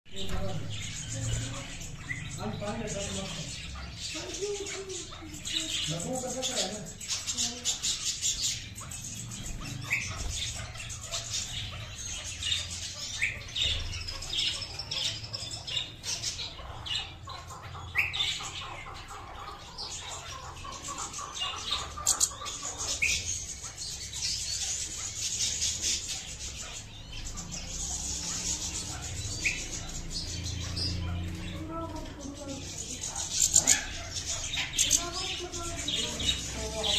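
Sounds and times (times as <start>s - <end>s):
finches chirping and twittering: 0.1s - 36.9s.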